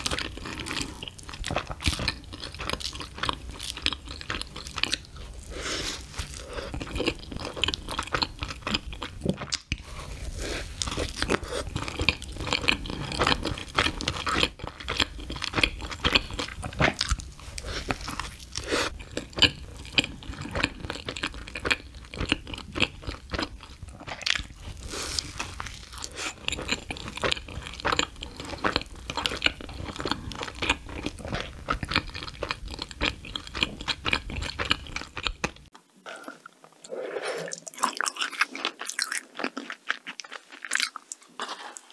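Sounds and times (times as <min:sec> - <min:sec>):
person chewing soft donut: 0:00.0 - 0:41.9.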